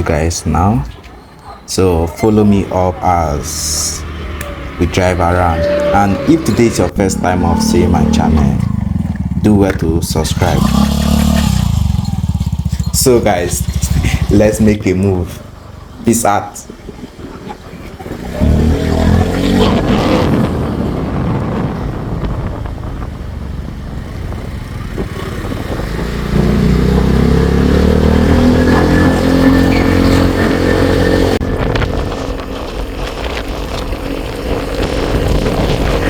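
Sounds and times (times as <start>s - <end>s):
vehicle engine driving off: 2.5s - 16.0s, 17.0s - 36.0s.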